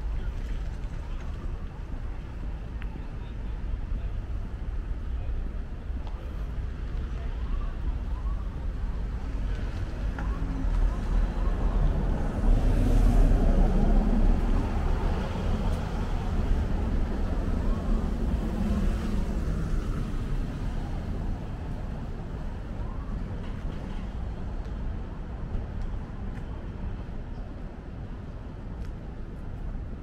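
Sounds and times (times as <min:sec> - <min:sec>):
vehicle engine rumble: 0:00.0 - 0:30.0.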